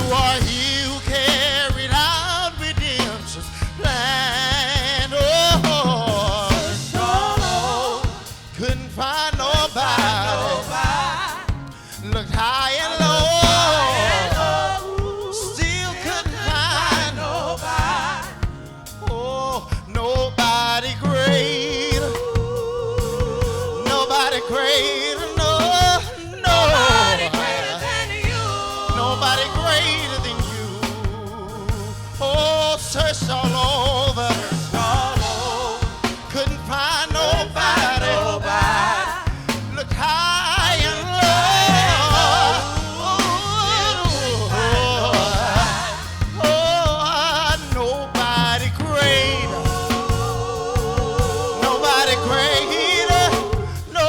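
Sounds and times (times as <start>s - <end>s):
gospel singing with vibrato: 0.0s - 54.0s
steady bass accompaniment: 0.0s - 54.0s.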